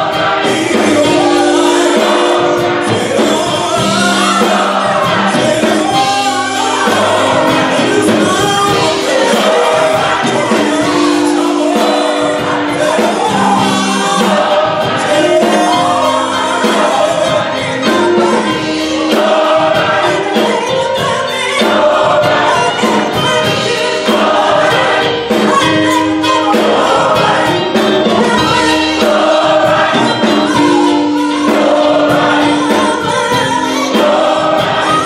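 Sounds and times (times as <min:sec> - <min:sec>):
drums: 0:00.0 - 0:35.0
electric guitar: 0:00.0 - 0:35.0
gospel choir singing: 0:00.0 - 0:35.0
vocalists on microphones: 0:00.0 - 0:35.0.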